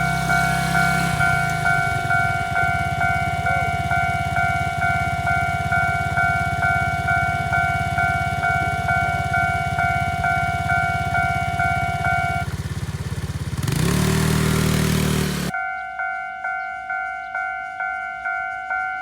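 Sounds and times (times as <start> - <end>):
engine idling: 0.0 - 15.6
traffic moving off: 0.0 - 15.6
level-crossing bell ringing: 0.0 - 19.0.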